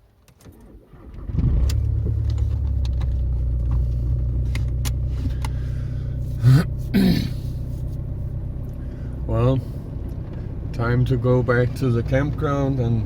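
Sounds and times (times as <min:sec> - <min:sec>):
van engine starting and idling: 0:00.5 - 0:13.0.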